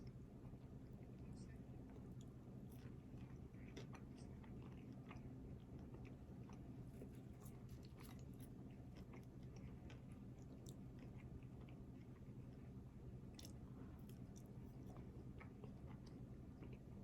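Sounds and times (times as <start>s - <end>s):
steady low hum: 0.0s - 17.0s
chewing and biting food: 1.8s - 17.0s.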